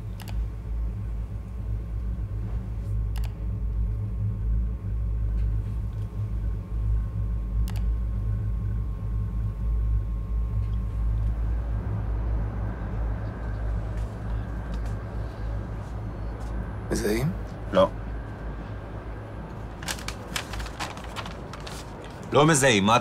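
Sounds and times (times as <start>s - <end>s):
faint electrical hum: 0.0s - 23.0s
steady low rumble: 0.0s - 23.0s.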